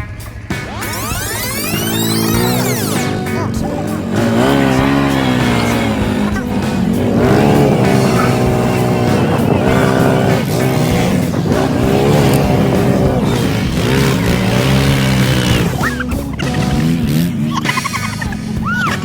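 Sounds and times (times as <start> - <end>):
atv engines revving: 0.0 - 19.0.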